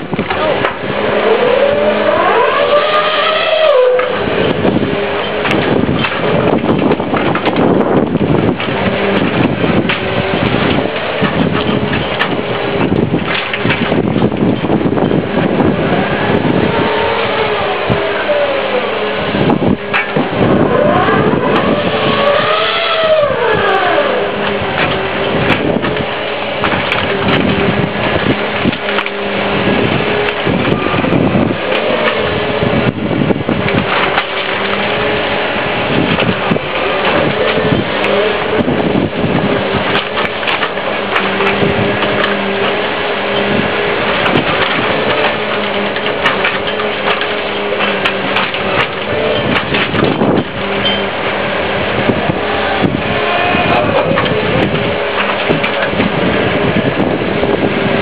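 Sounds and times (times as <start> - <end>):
faint engine hum: 0.0 - 58.0
wind buffeting microphone: 0.0 - 58.0.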